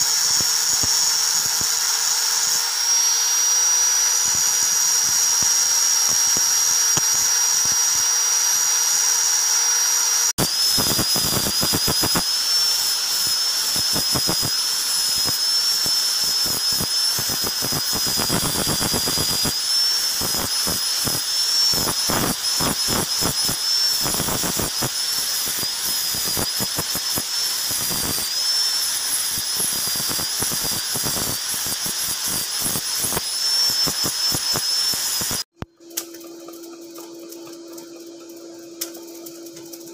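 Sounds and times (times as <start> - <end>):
disc grinding steel blade: 0.0 - 35.4
angle grinder whining: 0.0 - 39.9.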